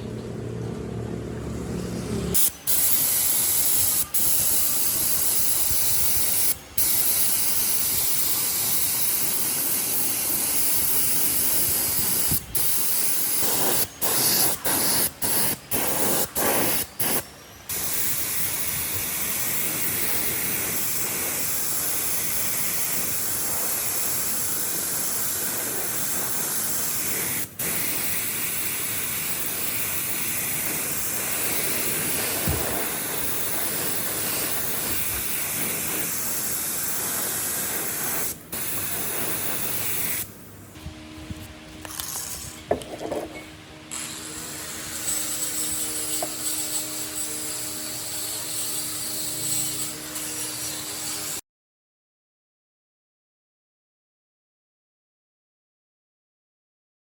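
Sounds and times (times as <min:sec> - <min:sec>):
compressed air hissing from air tool: 0:02.3 - 0:40.7, 0:43.9 - 0:51.4.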